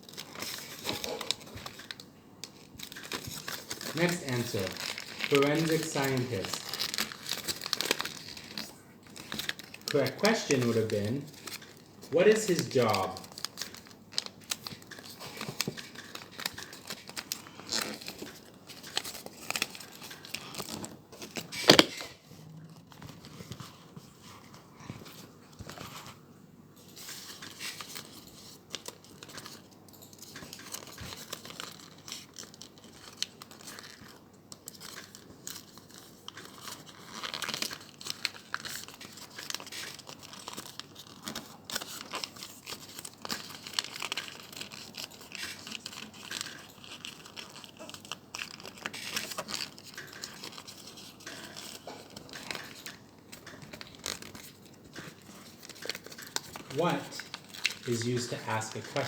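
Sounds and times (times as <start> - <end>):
sharp paper crackle: 0.0 - 22.2, 27.0 - 59.0
paper crinkling and rustling: 0.0 - 59.0.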